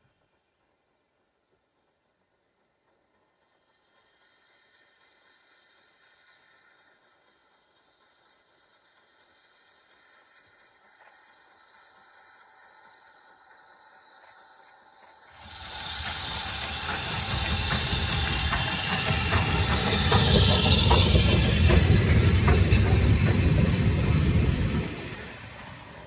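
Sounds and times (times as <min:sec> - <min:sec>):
steam locomotive passing: 0:00.0 - 0:26.0
steam hiss: 0:02.1 - 0:26.0.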